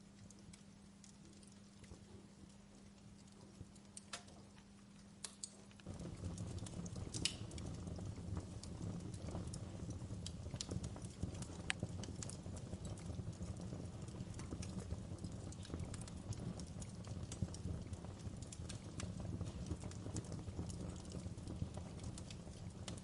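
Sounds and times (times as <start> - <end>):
low rumble of burning: 0.0 - 23.0
wood fire crackling and popping: 0.0 - 23.0.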